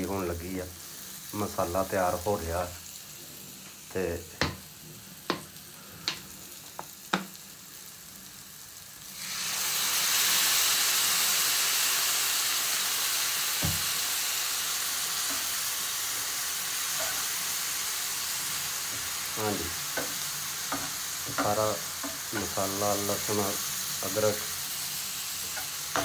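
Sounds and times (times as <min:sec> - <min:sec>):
loud frying sizzle: 0:00.0 - 0:26.0.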